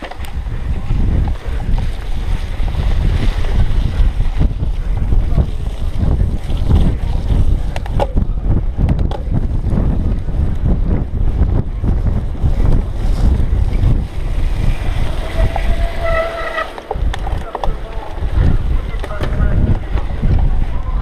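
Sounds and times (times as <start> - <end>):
bike rattling and clicking: 0.0 - 21.0
wind buffeting microphone: 0.0 - 21.0.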